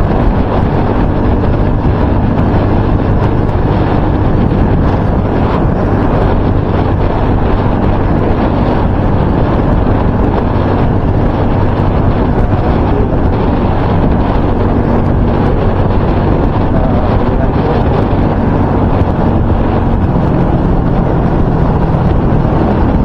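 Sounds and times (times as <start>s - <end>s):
wind buffeting a microphone: 0.0s - 23.0s.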